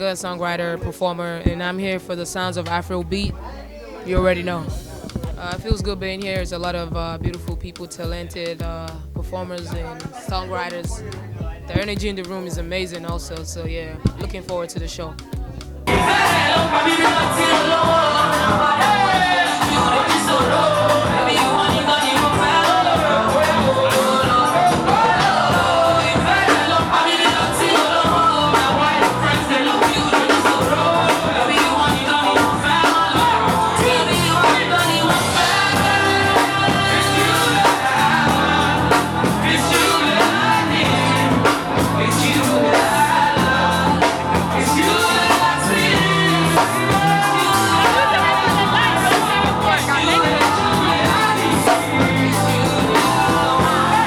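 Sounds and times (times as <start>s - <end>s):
afrobeats song with steady beat: 0.0s - 54.0s
person singing: 0.0s - 54.0s.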